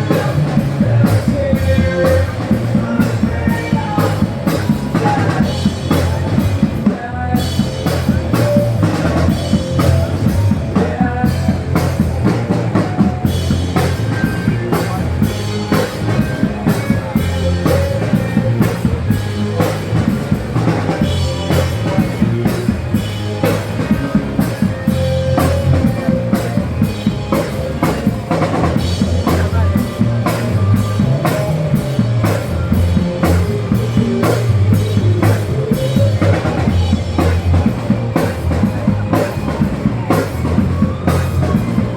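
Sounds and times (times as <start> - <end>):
drum kit beat: 0.0 - 41.9.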